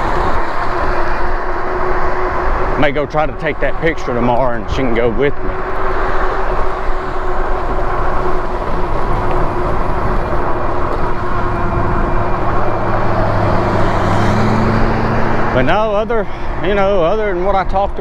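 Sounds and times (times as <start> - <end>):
low hum: 0.0 - 18.0
road noise: 0.0 - 18.0
wind noise: 0.0 - 18.0.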